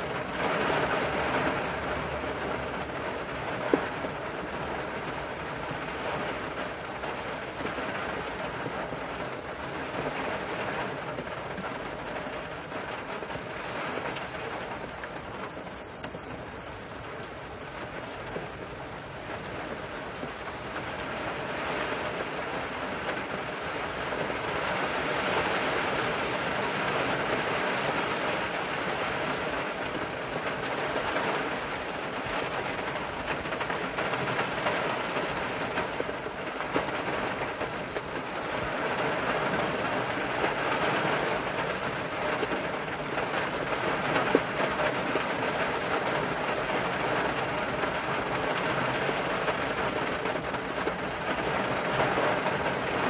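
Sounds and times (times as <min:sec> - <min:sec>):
rain on car roof: 0:00.0 - 0:53.0.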